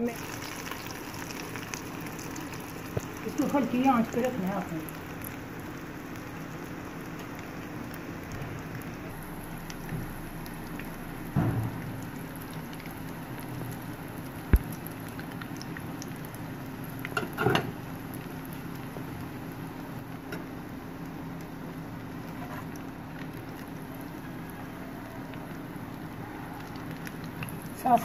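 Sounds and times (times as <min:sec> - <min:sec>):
oil sizzling in a pan: 0:00.0 - 0:28.0.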